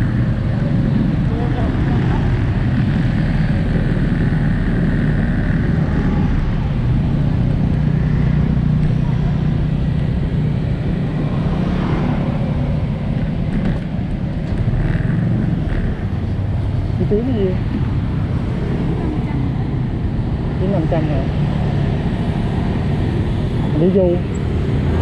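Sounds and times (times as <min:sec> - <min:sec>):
motorbike engine rumble: 0:00.0 - 0:25.0
passing motorbikes and cars: 0:00.0 - 0:25.0
wind on microphone: 0:00.0 - 0:25.0.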